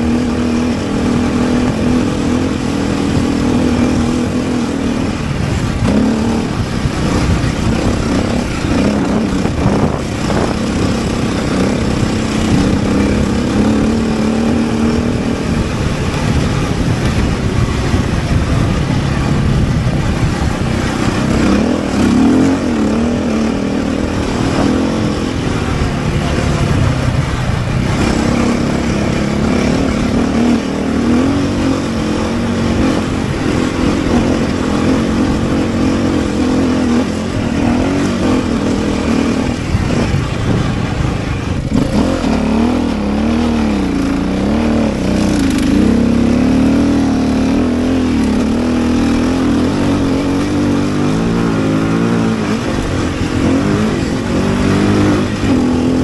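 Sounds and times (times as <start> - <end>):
road and wind noise: 0.0 - 56.0
vehicle engine running: 0.0 - 56.0.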